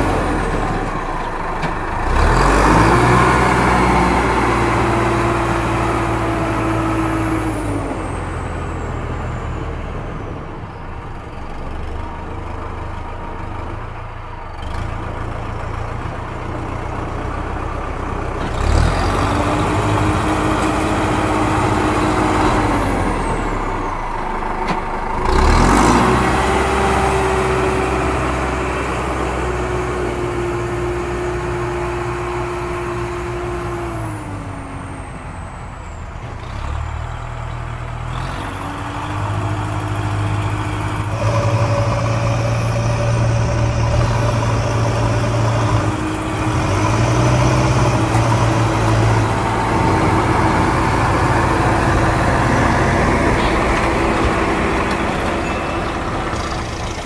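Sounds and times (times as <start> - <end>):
heavy vehicle engine running: 0.0 - 57.0.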